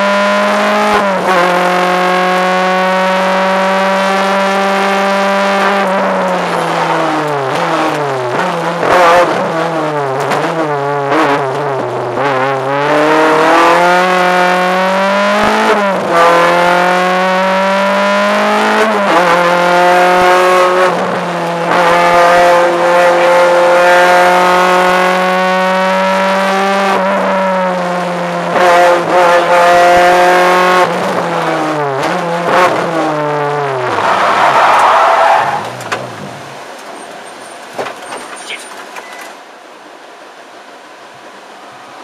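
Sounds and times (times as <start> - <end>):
rally car engine revving: 0.0 - 38.8.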